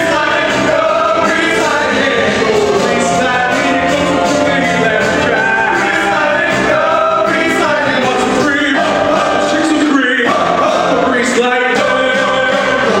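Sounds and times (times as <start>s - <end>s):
men singing: 0.0s - 13.0s
rock and roll backing music: 0.0s - 13.0s.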